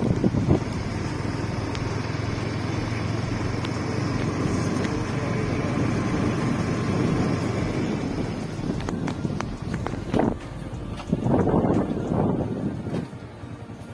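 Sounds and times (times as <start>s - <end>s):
wind noise on microphone: 0.0s - 1.9s, 4.1s - 13.9s.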